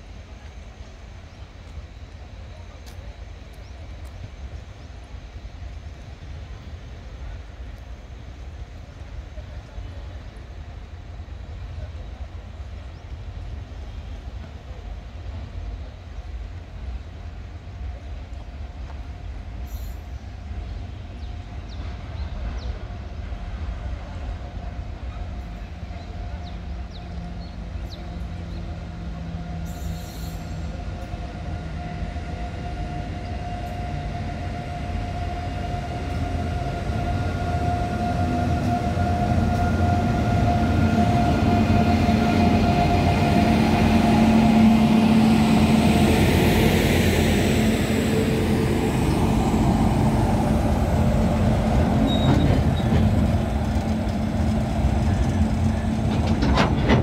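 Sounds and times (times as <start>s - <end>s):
electric locomotive whine and hum: 0.0s - 57.0s
wheels rumbling on rail: 0.0s - 57.0s.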